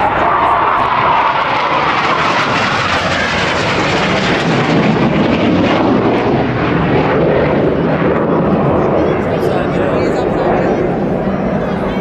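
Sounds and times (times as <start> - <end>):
jet flying low past: 0.0 - 12.0.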